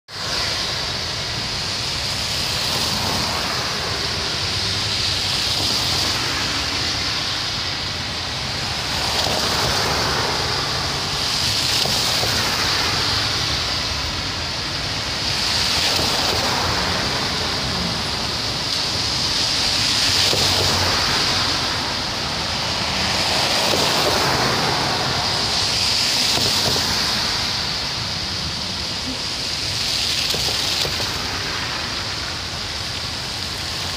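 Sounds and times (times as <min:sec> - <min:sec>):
tyres hissing on wet road: 0:00.1 - 0:33.9.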